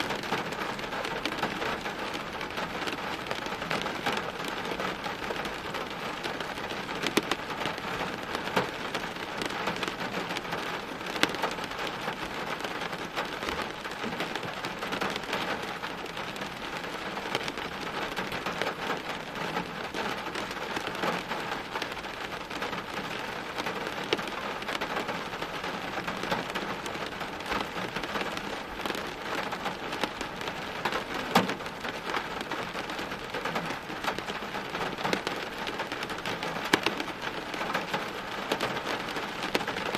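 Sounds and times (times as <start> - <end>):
loud rain splats: 0.0 - 39.9
steady rain hiss: 0.0 - 39.9.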